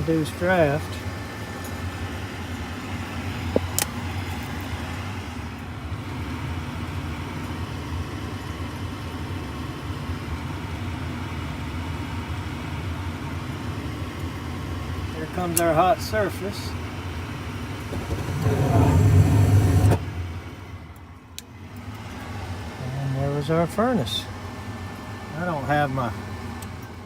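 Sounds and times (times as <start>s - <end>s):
furnace inducer motor humming: 0.0s - 27.0s.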